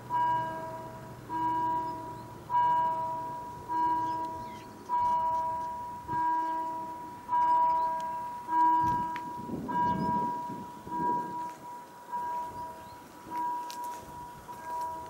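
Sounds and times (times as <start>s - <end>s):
level-crossing warning bell: 0.0s - 15.0s.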